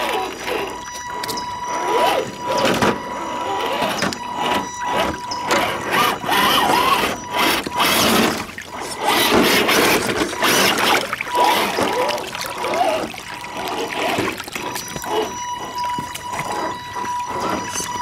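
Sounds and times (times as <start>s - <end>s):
electric motor whining: 0.0s - 18.0s
water splashing and trickling: 0.0s - 18.0s.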